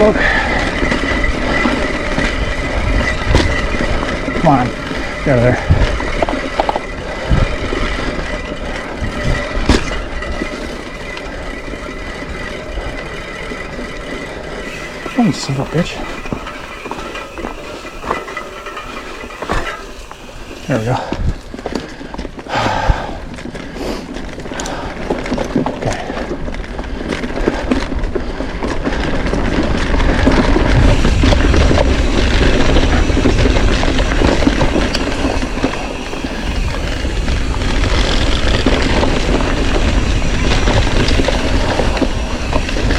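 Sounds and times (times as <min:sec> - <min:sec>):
bike rushing on dirt trail: 0:00.0 - 0:42.9
wind buffeting microphone: 0:00.0 - 0:42.9.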